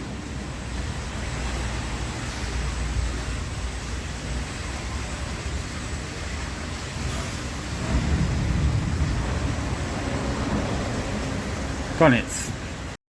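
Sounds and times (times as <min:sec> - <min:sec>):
car wash machinery rumbling: 0:00.0 - 0:13.0.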